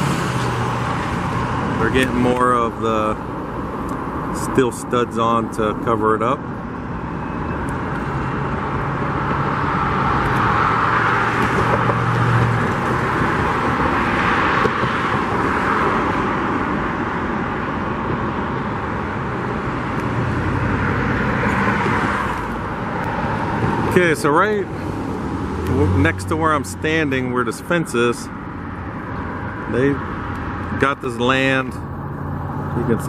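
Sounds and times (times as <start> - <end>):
cars passing: 0.0 - 33.0
low engine hum: 0.0 - 33.0.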